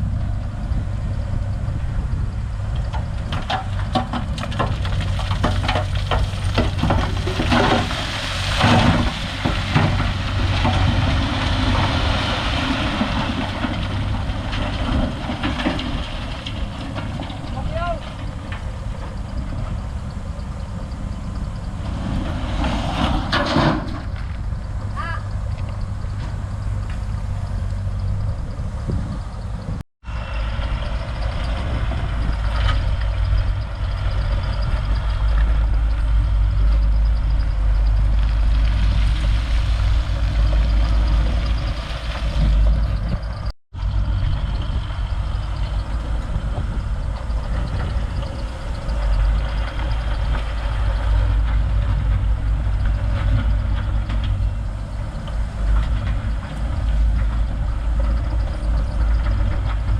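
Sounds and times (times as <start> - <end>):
diesel earthmoving machinery rumble: 0.0 - 59.9.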